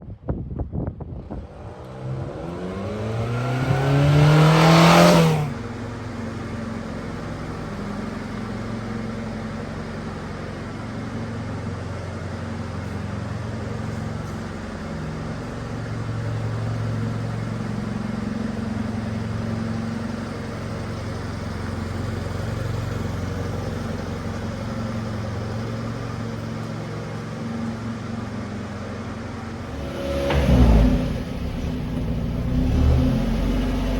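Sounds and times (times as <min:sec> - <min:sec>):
truck engine revving and idling: 0:01.0 - 0:33.9.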